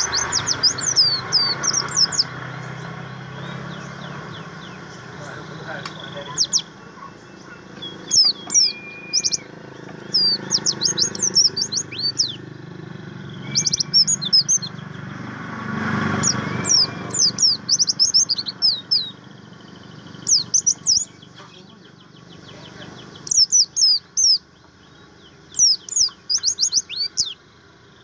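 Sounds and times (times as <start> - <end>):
bird singing high chirps: 0.0 - 28.0.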